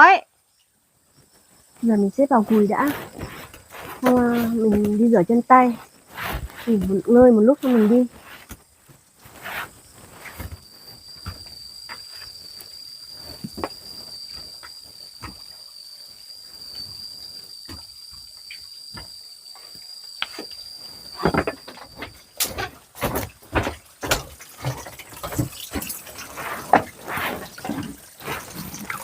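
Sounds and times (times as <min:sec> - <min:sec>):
insect trilling: 0:00.0 - 0:29.0.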